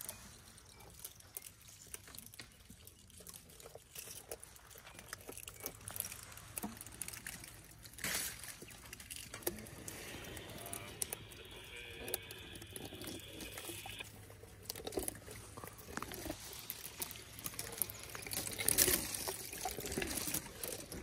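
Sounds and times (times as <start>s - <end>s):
elephant chewing wet crunching: 0.0s - 21.0s.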